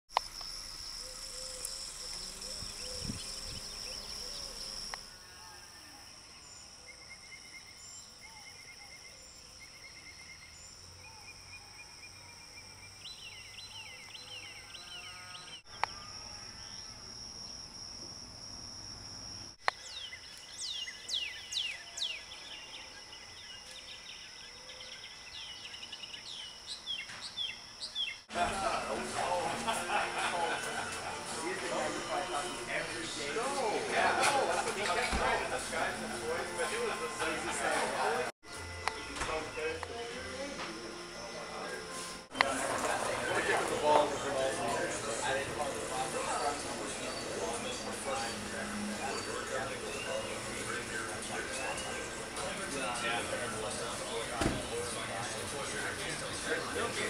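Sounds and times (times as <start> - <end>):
high insect drone: 0.1 - 57.0
birds chirping: 0.7 - 16.7, 19.6 - 40.0, 41.1 - 57.0.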